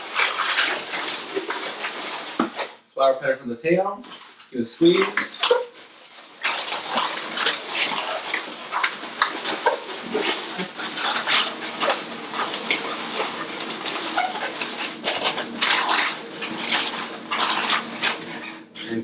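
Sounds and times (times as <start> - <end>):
balloons squeaking and rubbing: 0.0 - 2.8, 4.0 - 19.0.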